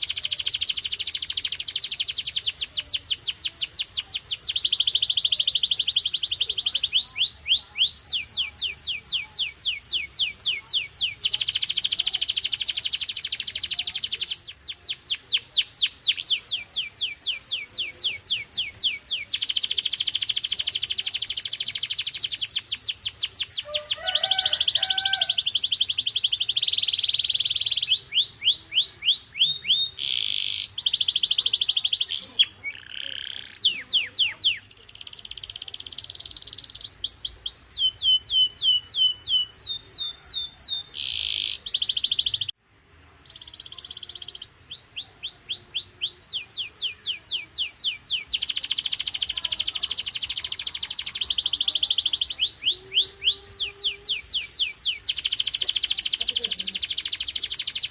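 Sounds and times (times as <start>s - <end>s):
canary singing: 0.0s - 42.6s, 43.2s - 57.9s.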